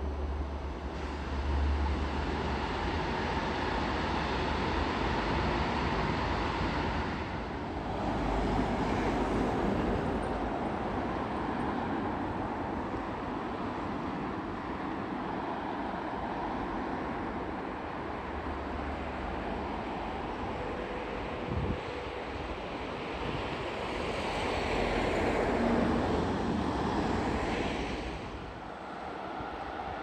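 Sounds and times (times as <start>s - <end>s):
road traffic roar: 0.0s - 30.0s.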